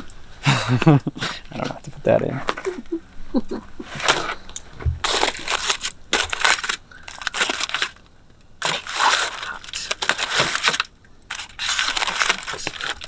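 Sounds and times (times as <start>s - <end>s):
crinkling crunching noises: 0.0s - 13.0s.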